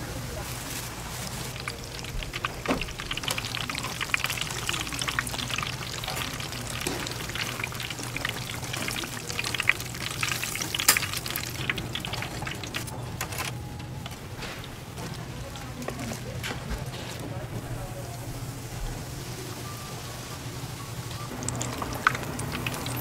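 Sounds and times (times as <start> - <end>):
food deep-frying in hot oil: 0.0 - 16.7, 17.3 - 23.0.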